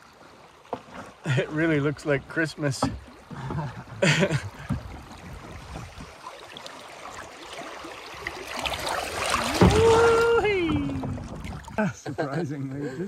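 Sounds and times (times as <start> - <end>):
water splashing along canoe hull: 0.0 - 13.0.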